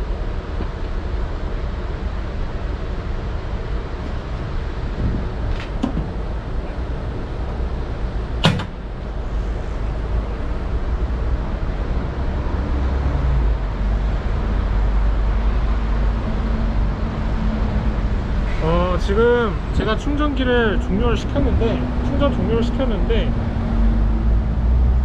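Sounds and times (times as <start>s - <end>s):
bus: 0.0s - 25.0s
city street traffic rumble: 0.0s - 25.0s.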